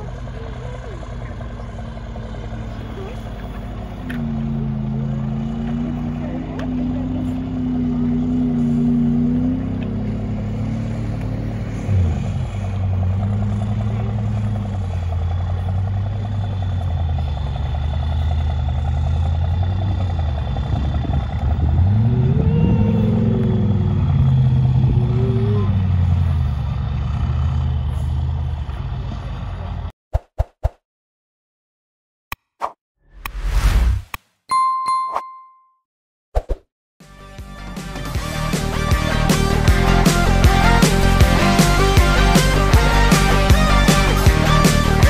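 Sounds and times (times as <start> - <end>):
truck diesel engine under load: 0.0 - 29.9, 37.6 - 45.0.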